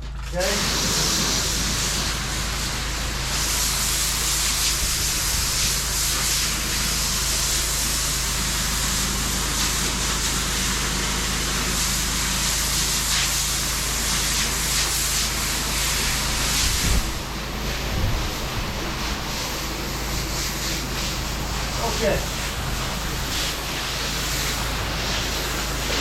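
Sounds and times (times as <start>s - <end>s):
pressure washer spray hissing: 0.3s - 26.0s.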